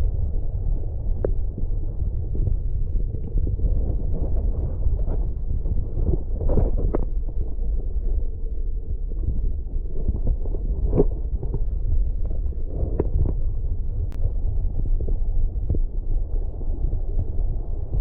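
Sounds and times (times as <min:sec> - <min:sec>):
muffled low rumble: 0:00.0 - 0:18.0.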